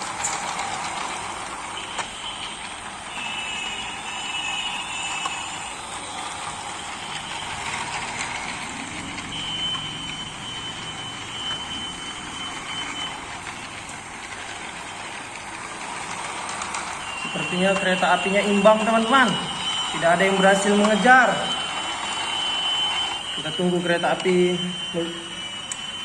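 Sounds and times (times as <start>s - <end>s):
toy train motors whirring: 0.0s - 26.0s
thin high whine: 1.5s - 13.9s, 16.0s - 26.0s.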